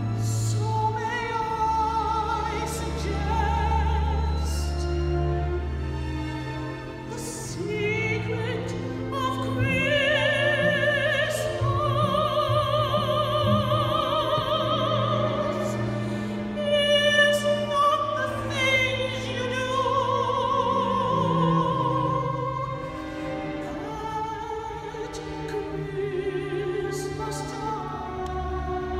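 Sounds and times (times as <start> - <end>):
soprano singing with vibrato: 0.0 - 5.5, 7.1 - 28.9
small orchestra with bowed strings: 0.0 - 28.9.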